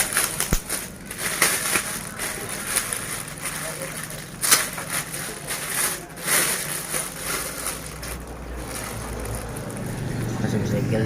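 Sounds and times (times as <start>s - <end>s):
package rustling: 0.0s - 10.3s.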